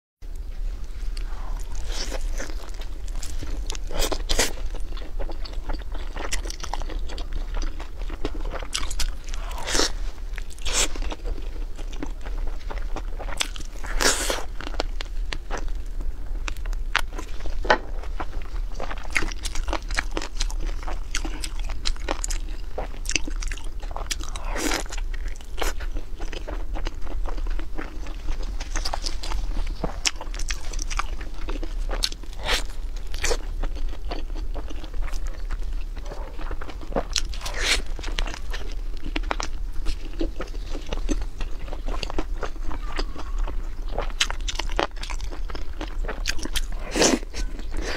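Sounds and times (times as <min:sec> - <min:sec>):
low steady hum: 0:00.2 - 0:47.9
crunchy chewing of chicken wings: 0:01.1 - 0:47.9.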